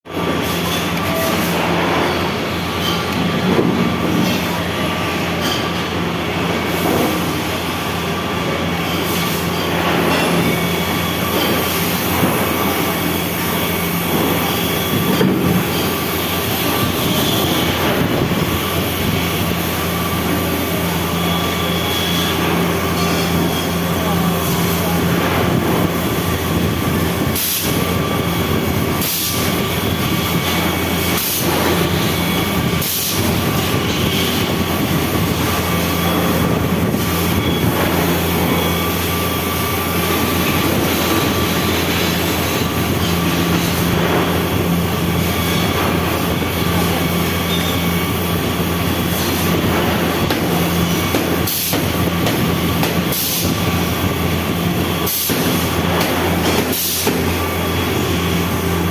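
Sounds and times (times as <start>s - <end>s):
welding machine humming: 0.1s - 58.9s.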